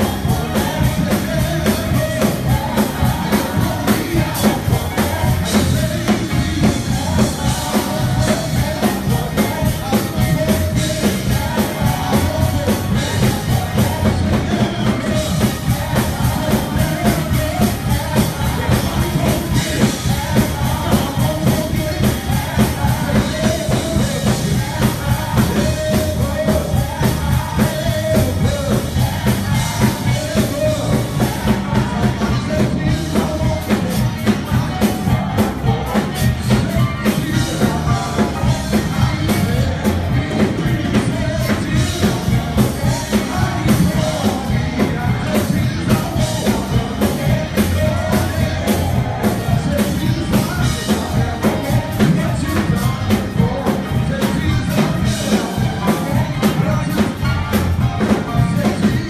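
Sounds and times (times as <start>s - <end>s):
band with drum kit: 0.0s - 59.0s
gospel singing: 0.0s - 59.0s.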